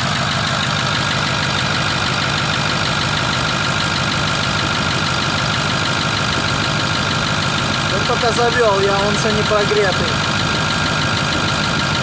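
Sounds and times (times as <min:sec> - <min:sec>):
diesel engine idling: 0:00.0 - 0:12.0
steady high whine: 0:00.0 - 0:12.0.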